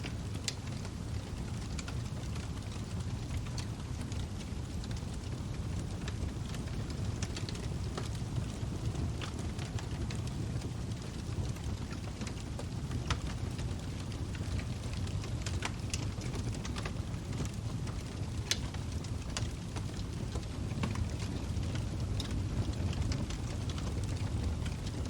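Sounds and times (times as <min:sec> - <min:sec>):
crackles and pops of burning wood: 0:00.0 - 0:25.0
log fire rumbling: 0:00.0 - 0:25.0.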